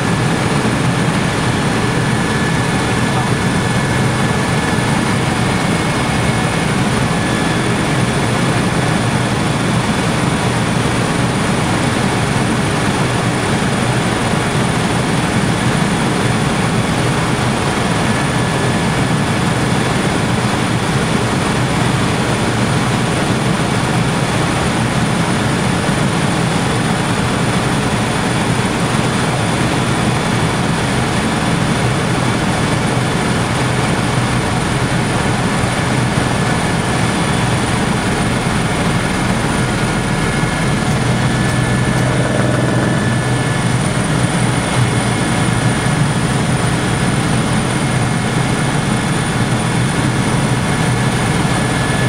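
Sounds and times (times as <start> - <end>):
aircraft cabin drone: 0.0 - 21.1, 26.6 - 52.0.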